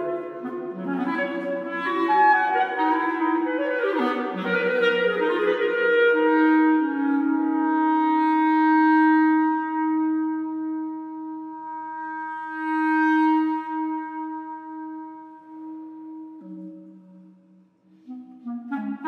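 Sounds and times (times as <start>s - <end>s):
clarinet holding long note: 0.0s - 19.0s.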